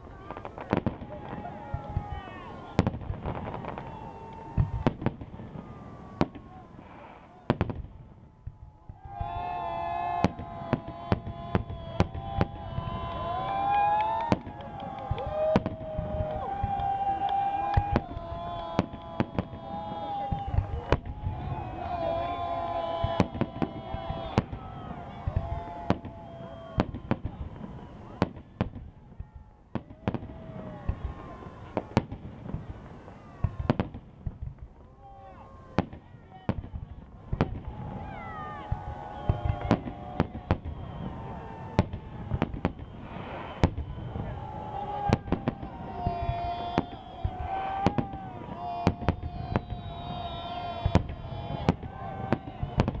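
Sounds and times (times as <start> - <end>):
fireworks bursting: 0.0 - 53.0.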